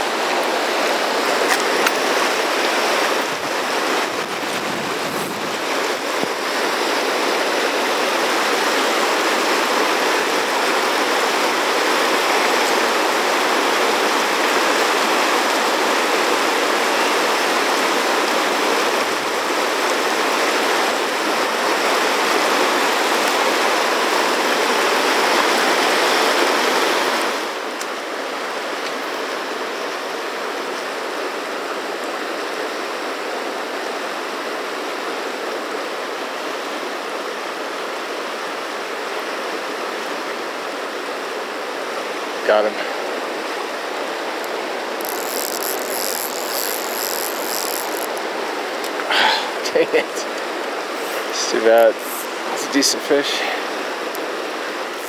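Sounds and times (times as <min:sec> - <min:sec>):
river rapids roaring: 0:00.0 - 0:35.3, 0:36.0 - 0:55.0.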